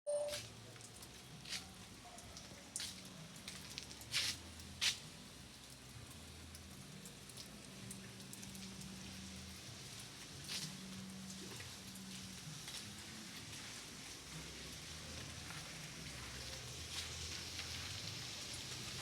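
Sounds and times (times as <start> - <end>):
rain dripping and pattering: 0.3 - 19.0.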